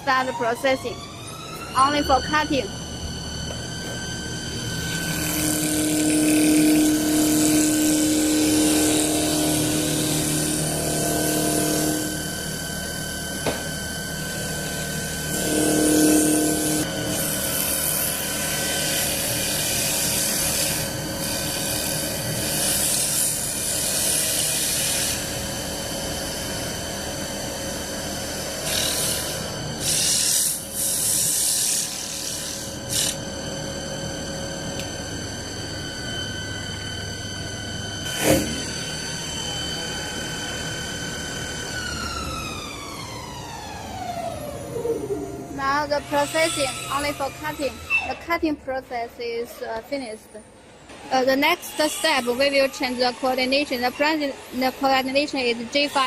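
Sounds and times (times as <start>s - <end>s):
lathe machine whine: 0.0s - 56.0s.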